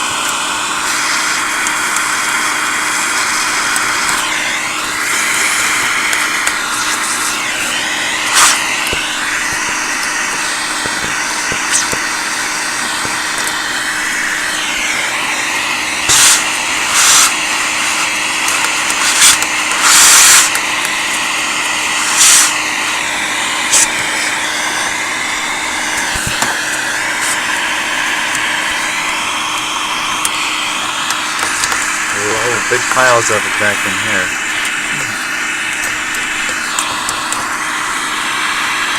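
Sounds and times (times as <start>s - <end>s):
hissing suction rushes: 0.0s - 38.9s
vacuum cleaner humming: 0.0s - 38.9s.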